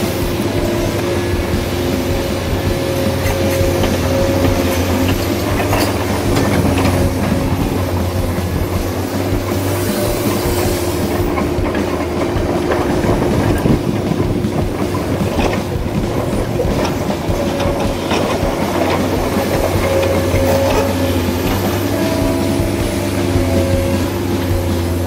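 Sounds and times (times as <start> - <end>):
mechanical drone: 0.0 - 25.0
track links clattering: 0.0 - 25.0.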